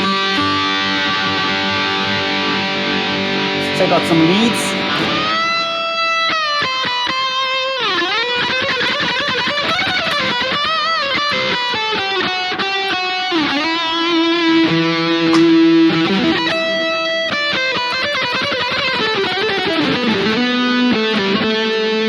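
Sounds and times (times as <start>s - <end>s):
distorted lead electric guitar: 0.0s - 22.0s.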